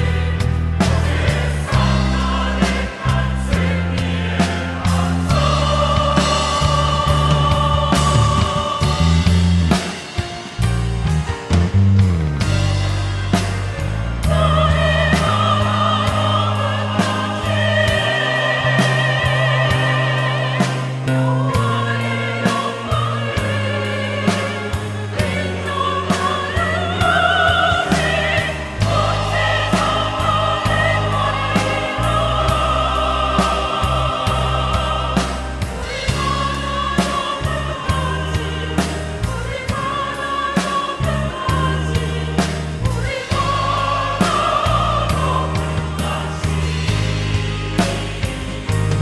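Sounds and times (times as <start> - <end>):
choir singing in parts: 0.0 - 10.4, 12.4 - 49.0.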